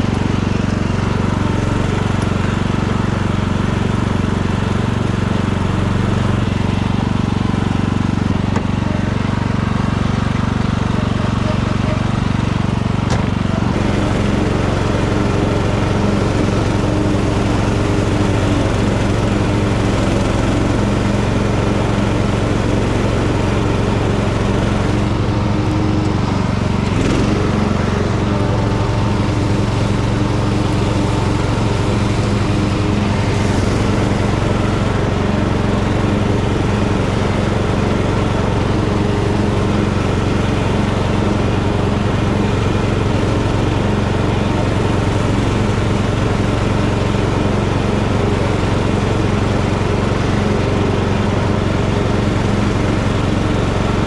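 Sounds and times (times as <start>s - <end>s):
mower cutting grass: 0.0s - 54.0s
tractor engine running: 0.0s - 54.0s.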